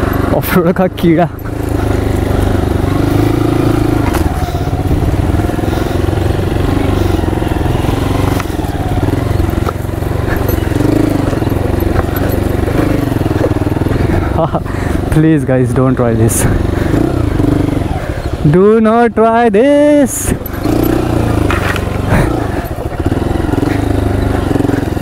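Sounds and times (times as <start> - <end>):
motorcycle engine at low revs: 0.0 - 25.0.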